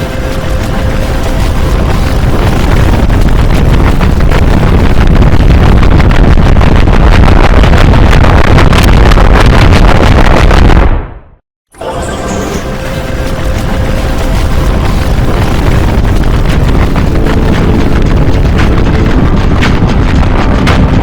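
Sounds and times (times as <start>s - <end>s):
heavily distorted rumbling noise: 0.0s - 21.0s.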